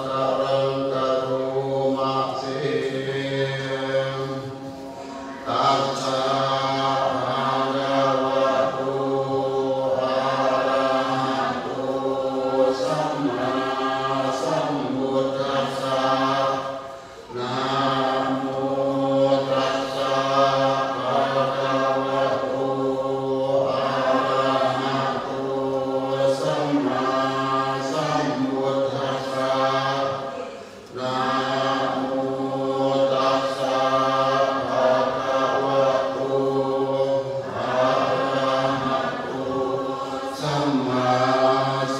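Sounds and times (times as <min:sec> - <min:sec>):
group chanting in unison: 0:00.0 - 0:41.9.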